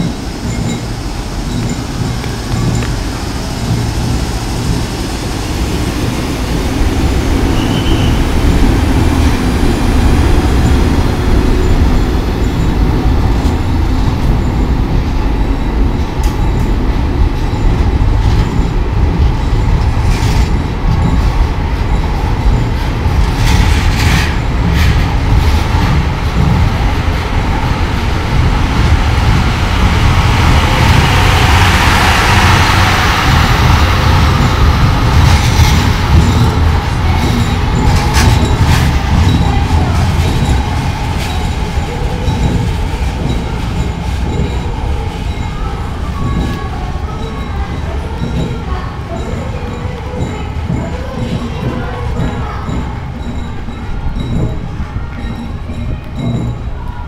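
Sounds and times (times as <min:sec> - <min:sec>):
electric train rumbling on track: 0:00.0 - 0:57.0.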